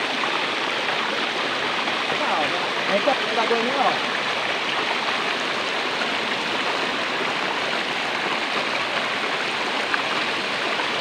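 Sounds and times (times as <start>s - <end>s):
river water rushing over rock: 0.0s - 11.0s.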